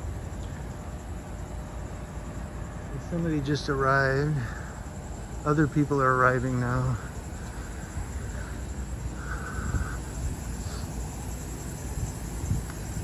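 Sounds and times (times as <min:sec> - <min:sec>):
engines and road traffic rumble: 0:00.0 - 0:13.0.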